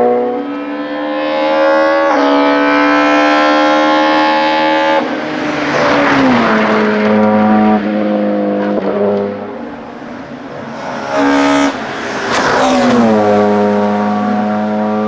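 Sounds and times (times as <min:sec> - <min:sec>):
racing car engine at full throttle: 0:00.0 - 0:15.0.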